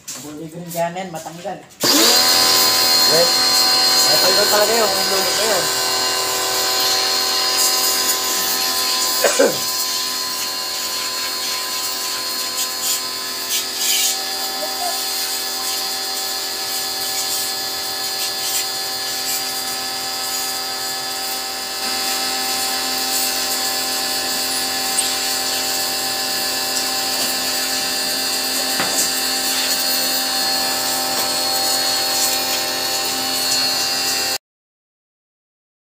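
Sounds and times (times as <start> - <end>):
hissing water jet: 1.8 - 34.3
pressure washer motor whining: 1.8 - 34.4.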